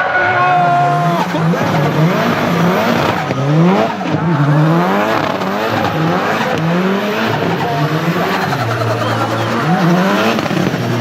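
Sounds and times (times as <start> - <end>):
car engine revving: 0.0 - 11.0
tyres squealing: 0.2 - 10.6.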